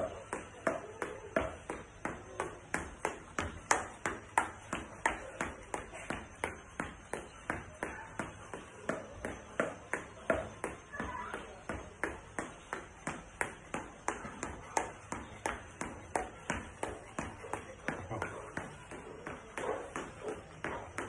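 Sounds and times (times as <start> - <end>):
sneaker footsteps on tiled floor: 0.0 - 21.0.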